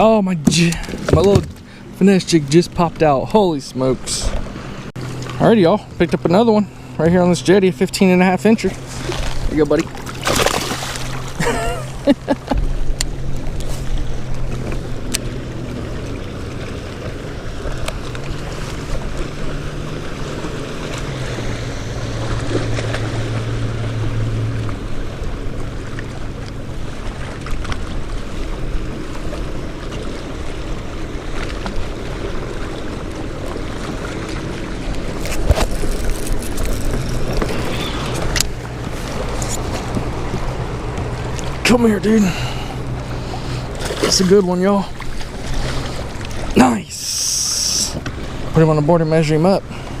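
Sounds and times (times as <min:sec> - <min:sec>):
low hum: 0:00.0 - 0:50.0
small waves lapping: 0:00.0 - 0:50.0.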